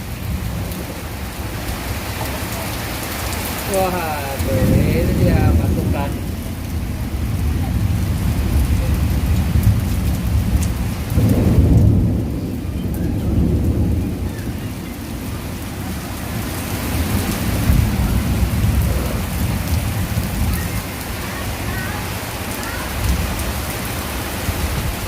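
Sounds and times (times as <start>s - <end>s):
heavy rain: 0.0s - 25.0s
thunder rumbling: 0.0s - 25.0s.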